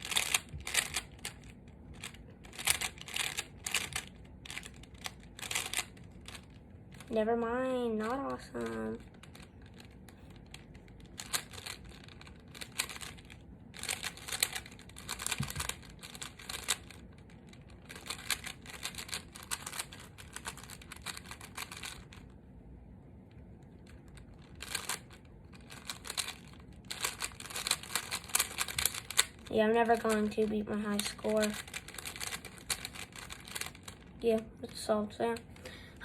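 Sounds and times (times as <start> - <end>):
plastic cube clicking: 0.0 - 7.1, 9.0 - 22.3, 23.9 - 30.2, 31.0 - 34.1.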